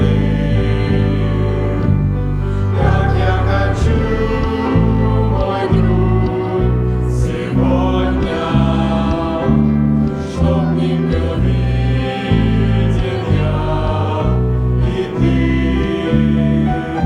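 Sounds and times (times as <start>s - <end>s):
choir singing: 0.0s - 17.0s
instrumental accompaniment: 0.0s - 17.0s.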